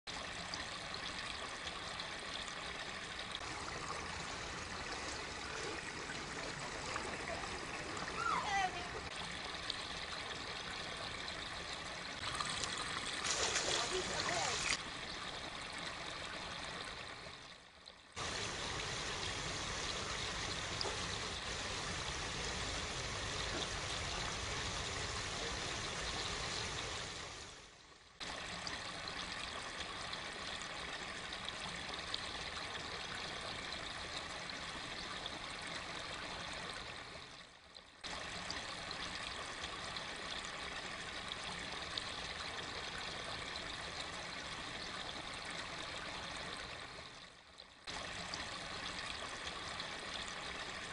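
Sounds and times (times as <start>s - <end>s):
stream trickling: 0.1s - 50.9s.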